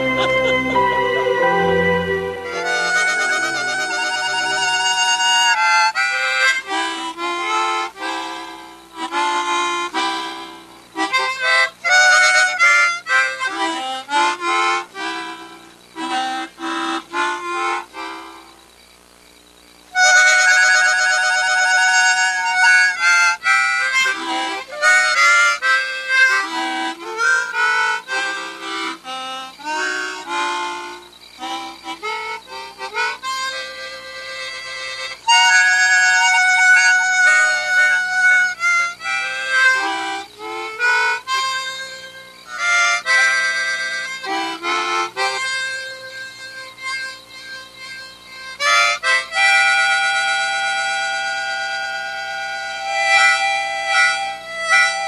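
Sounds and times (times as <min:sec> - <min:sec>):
harmonica melody: 0:00.0 - 0:18.7, 0:19.9 - 0:55.0.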